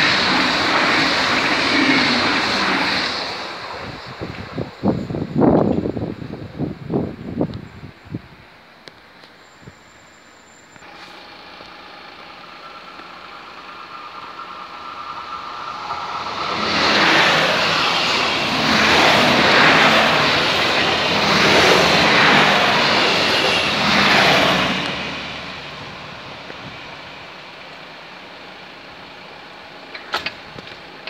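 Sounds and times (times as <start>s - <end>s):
train wheels rushing on rails: 0.0s - 9.8s, 10.6s - 31.0s.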